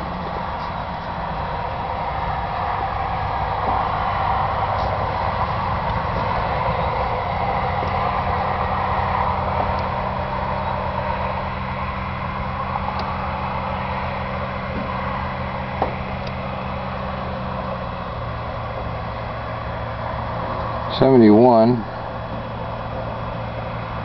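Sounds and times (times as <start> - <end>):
aircraft engine running: 0.0 - 24.0.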